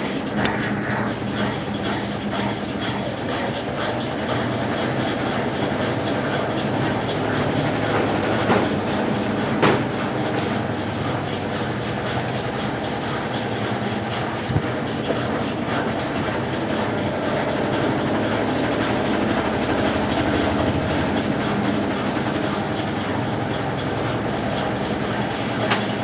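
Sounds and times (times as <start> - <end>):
washing machine motor hum with sloshing: 0.0 - 26.0.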